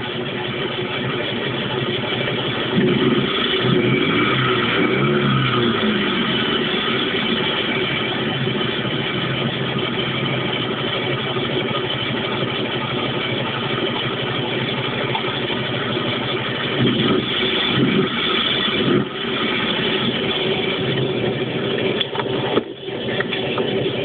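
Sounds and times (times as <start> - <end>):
small car engine running: 0.0 - 24.0.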